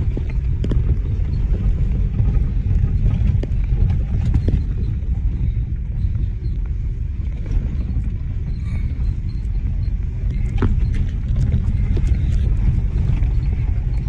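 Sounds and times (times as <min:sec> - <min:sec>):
engine and tyre rumble: 0:00.0 - 0:14.0
knocks and rattles over bumps: 0:00.0 - 0:14.0.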